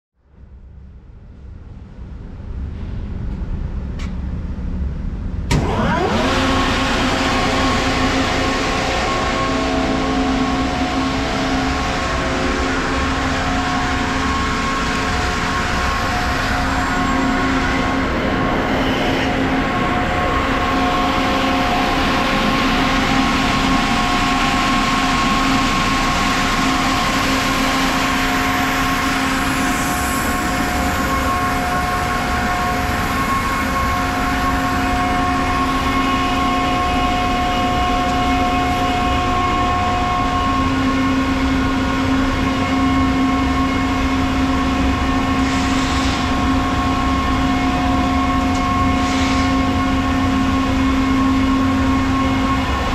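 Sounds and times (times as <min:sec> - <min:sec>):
air compressor humming and whining: 0:02.2 - 0:52.9.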